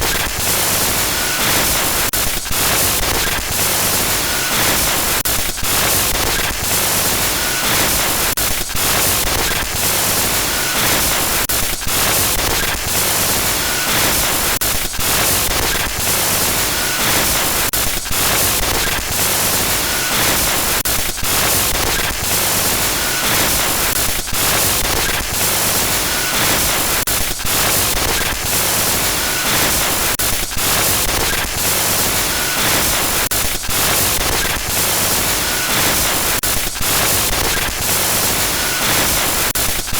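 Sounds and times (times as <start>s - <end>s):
harsh glitch static: 0.0s - 5.2s, 5.8s - 39.9s.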